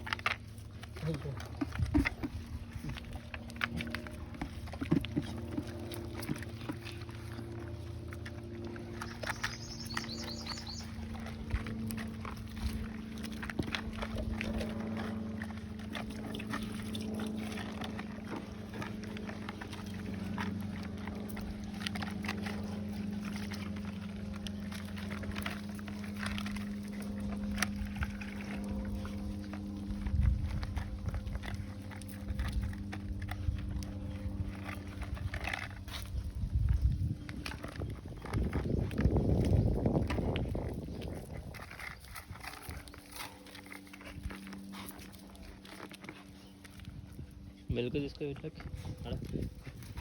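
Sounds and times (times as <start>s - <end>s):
dogs chewing and lapping: 0.0s - 50.0s
steady low hum: 0.0s - 50.0s.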